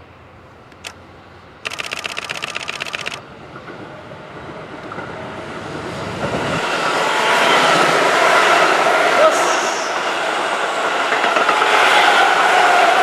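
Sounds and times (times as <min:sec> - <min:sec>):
electric train approaching: 0:00.0 - 0:13.0.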